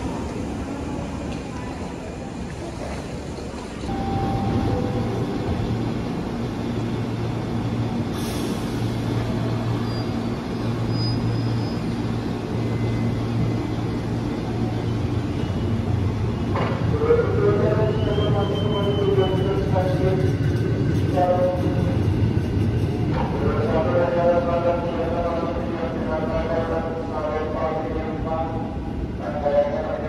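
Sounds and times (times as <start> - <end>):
train equipment humming: 0.0 - 25.3.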